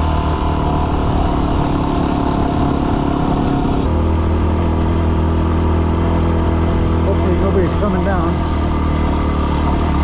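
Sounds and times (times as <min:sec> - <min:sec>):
motorcycle engine climbing: 0:00.0 - 0:10.0.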